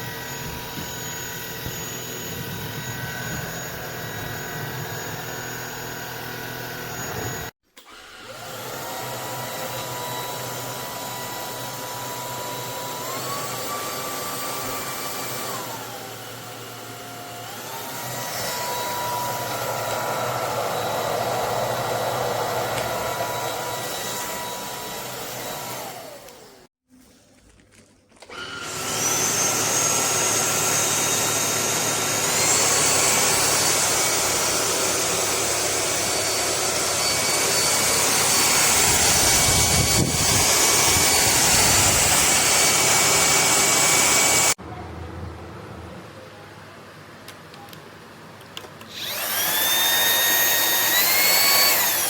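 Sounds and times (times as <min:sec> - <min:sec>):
vacuum cleaner motor whining: 0:00.0 - 0:26.7, 0:28.2 - 0:44.6, 0:48.8 - 0:52.0.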